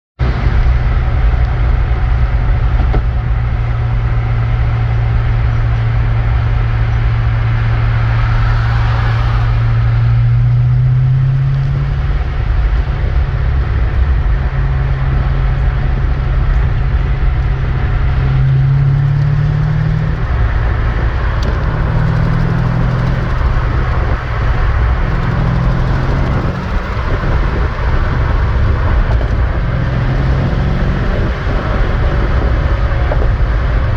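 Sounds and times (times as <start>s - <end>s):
car engine running: 0.2s - 33.9s.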